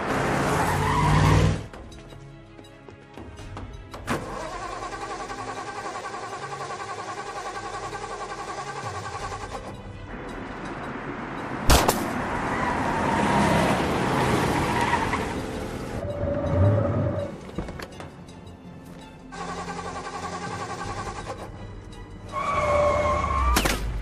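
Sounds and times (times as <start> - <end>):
film music: 0.0 - 24.0.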